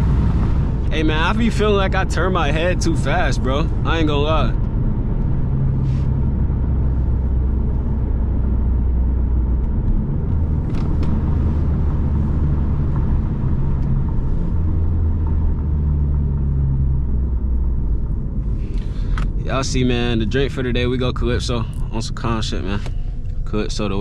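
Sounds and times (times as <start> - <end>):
low engine drone: 0.0 - 24.0
road noise: 0.0 - 24.0.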